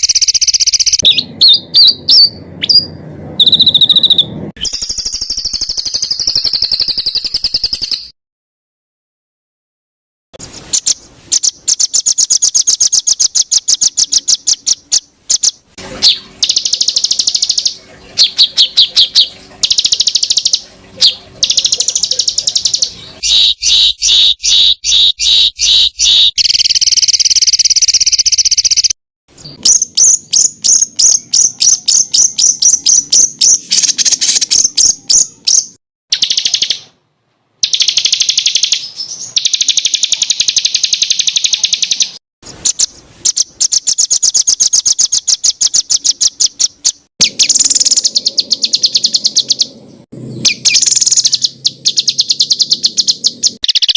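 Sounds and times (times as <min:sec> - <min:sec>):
songbird high-pitched trills: 0:00.0 - 0:08.1, 0:10.7 - 0:36.9, 0:37.6 - 0:53.9.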